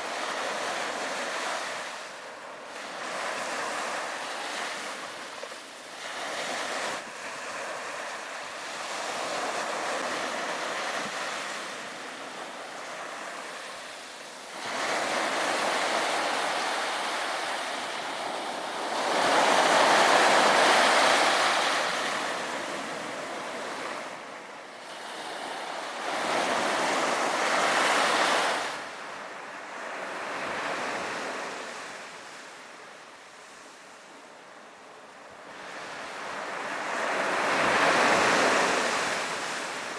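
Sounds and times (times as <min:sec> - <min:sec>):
sea waves breaking on beach: 0:00.0 - 0:32.5, 0:35.4 - 0:39.9.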